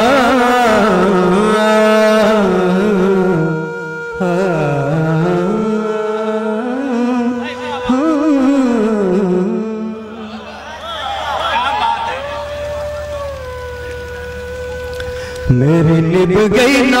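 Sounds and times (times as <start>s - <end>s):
man singing into a microphone: 0.0s - 10.6s, 12.0s - 17.0s
steady droning tone: 0.0s - 17.0s.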